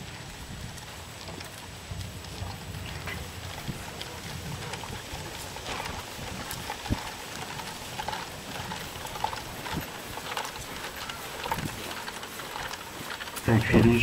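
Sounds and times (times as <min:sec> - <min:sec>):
marching footsteps on grass: 0:00.0 - 0:14.0.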